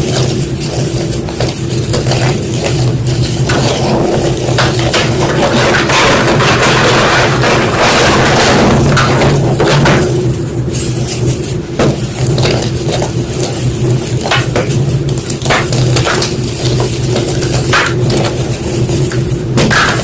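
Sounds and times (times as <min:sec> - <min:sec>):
chalk crunching and cracking: 0:00.0 - 0:09.6, 0:10.6 - 0:20.0
steady low hum: 0:00.0 - 0:20.0.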